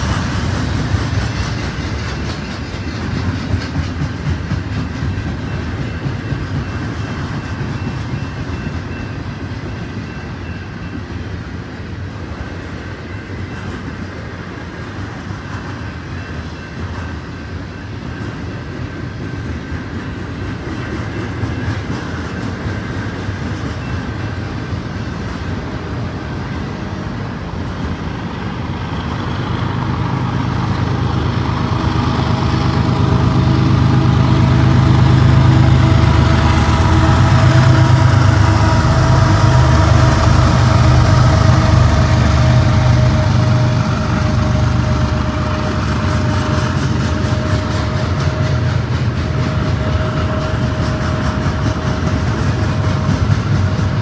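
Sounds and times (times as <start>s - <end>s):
diesel locomotive engines droning: 0.0s - 54.0s
freight train wheels clattering: 0.0s - 54.0s.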